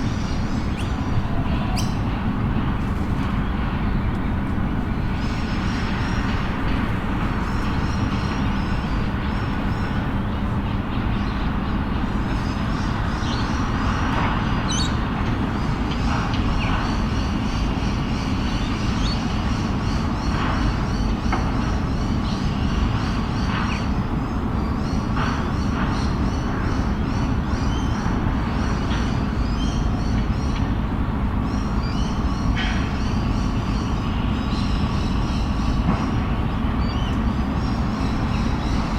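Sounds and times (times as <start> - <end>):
vehicles rumbling: 0.0 - 38.9.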